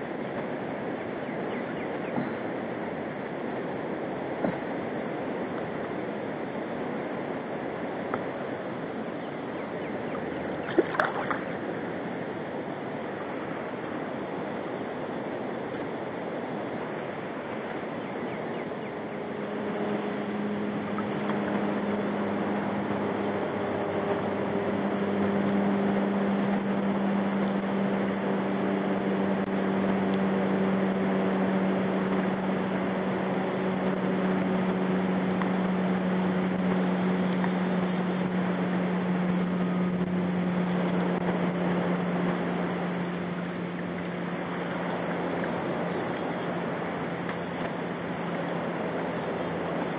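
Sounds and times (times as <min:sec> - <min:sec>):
boat motor humming: 0:00.0 - 0:49.9
wind: 0:00.0 - 0:49.9.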